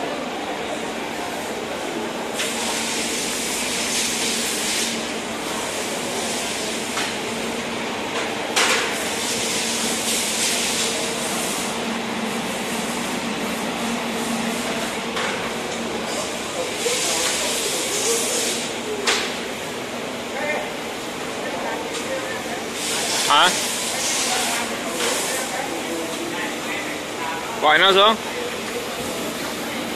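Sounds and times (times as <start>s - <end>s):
assembly line machines running: 0.2s - 21.3s, 22.3s - 29.9s.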